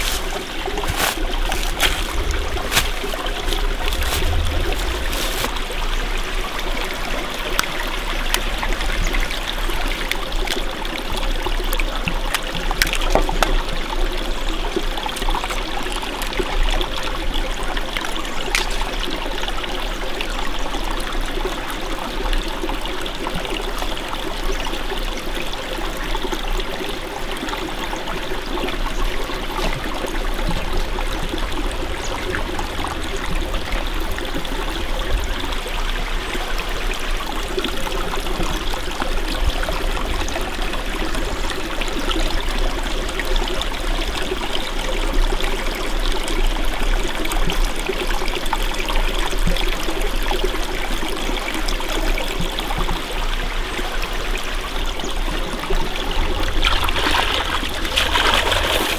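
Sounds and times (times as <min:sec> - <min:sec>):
stream trickling over rocks: 0:00.0 - 0:58.9.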